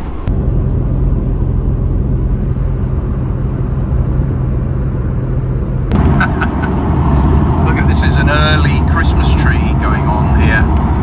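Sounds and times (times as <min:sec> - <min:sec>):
low engine drone in car cabin: 0:00.0 - 0:11.0
road noise: 0:00.0 - 0:11.0.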